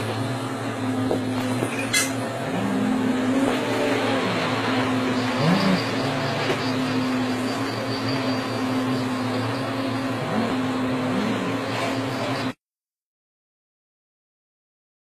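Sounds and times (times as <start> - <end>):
heavy machinery engine running: 0.0 - 12.6.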